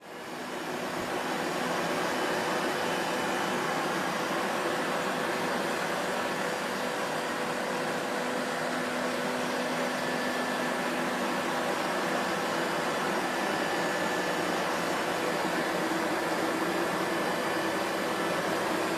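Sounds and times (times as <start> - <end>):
vacuum cleaner motor running: 0.0 - 18.9.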